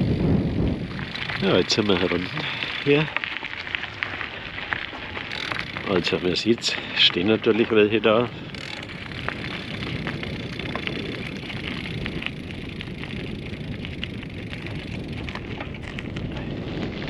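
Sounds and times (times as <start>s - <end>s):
tyres rolling over gravel: 0.0s - 17.0s.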